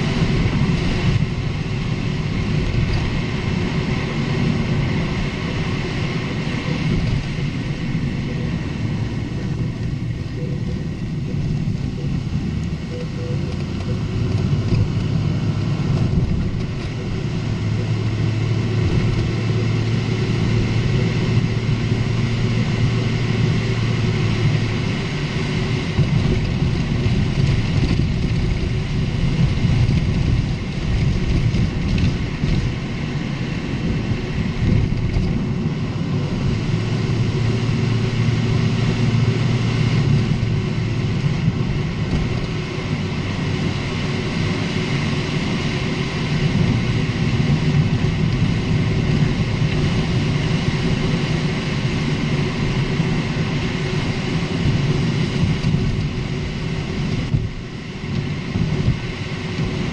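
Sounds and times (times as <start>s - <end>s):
car road and drivetrain rumble: 0.0s - 59.9s.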